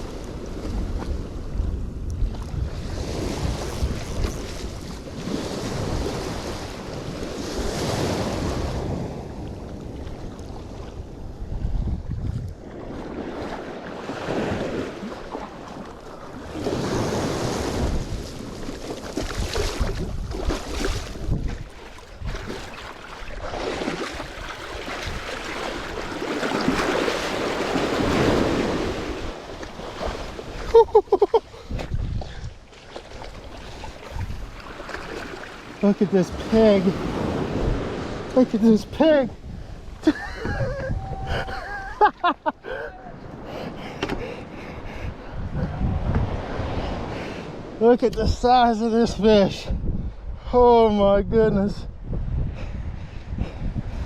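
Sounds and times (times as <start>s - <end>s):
surf washing on a beach: 0.0s - 44.4s, 45.1s - 49.6s
wind rumbling on microphone: 0.0s - 54.0s.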